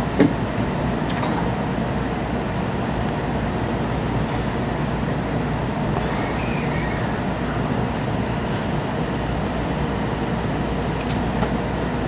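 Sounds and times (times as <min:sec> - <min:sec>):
steady low train hum: 0:00.0 - 0:12.0.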